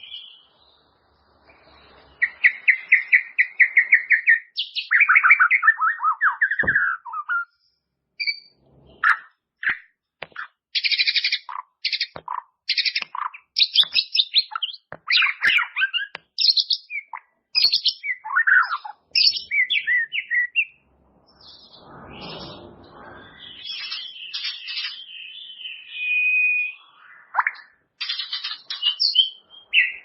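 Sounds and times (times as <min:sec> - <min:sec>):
bird singing trills: 0:00.0 - 0:30.0.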